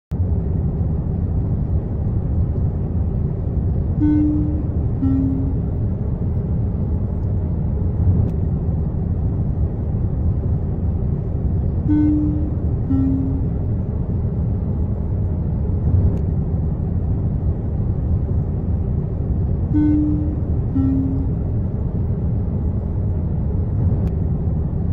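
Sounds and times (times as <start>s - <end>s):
airliner cabin drone: 0.1s - 24.9s.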